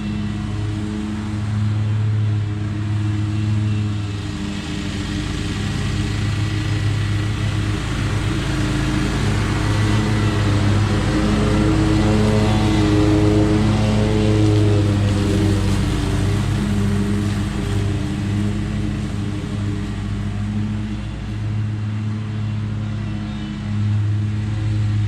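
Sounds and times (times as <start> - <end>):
lawn mower engine running: 0.0 - 25.0.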